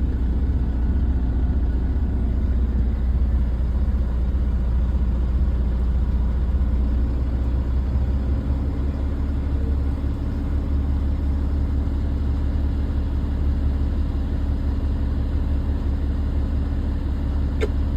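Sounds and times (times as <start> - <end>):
diesel engine rumbling: 0.0 - 17.9.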